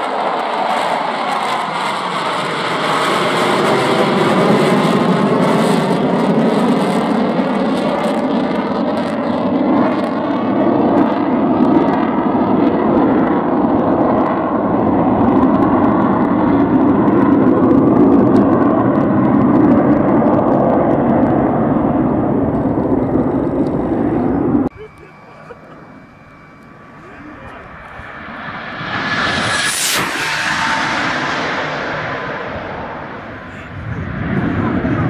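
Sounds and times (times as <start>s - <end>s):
jet fighters passing: 0.0s - 35.0s.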